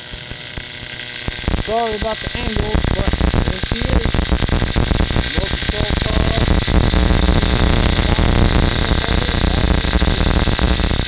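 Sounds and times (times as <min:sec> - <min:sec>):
string trimmer buzzing: 0:00.0 - 0:11.0.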